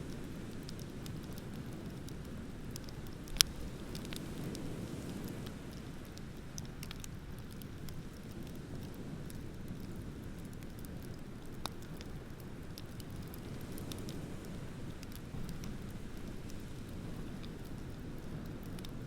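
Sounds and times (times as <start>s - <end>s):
bonfire crackling and popping: 0.0s - 19.0s.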